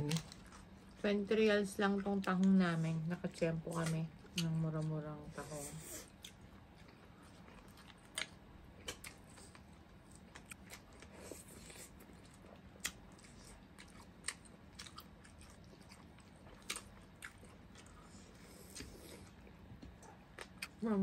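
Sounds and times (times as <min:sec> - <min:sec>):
low room hum: 0:00.0 - 0:21.0
people chewing: 0:00.0 - 0:21.0.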